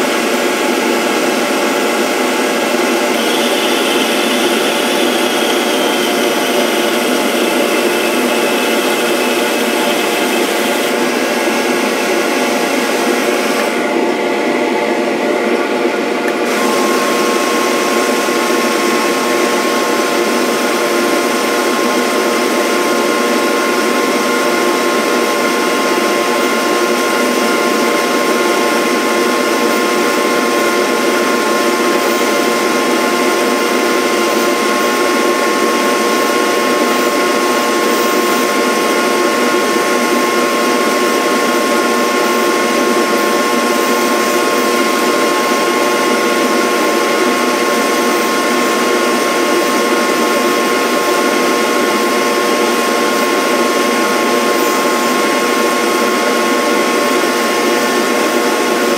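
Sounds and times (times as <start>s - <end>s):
small motor high whine: 0.1s - 58.9s.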